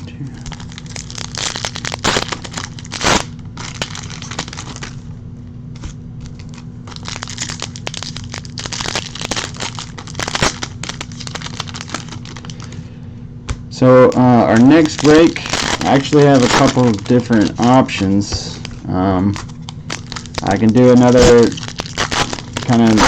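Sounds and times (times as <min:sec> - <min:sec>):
foil wrappers crinkling and tearing: 0:00.3 - 0:05.1, 0:05.7 - 0:12.9, 0:13.8 - 0:23.0.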